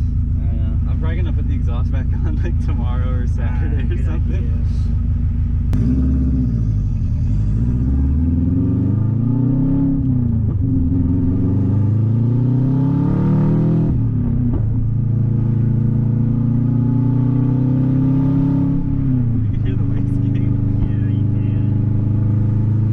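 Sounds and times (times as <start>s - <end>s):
loud raspy car engine revving: 0.0s - 5.0s, 5.7s - 22.9s.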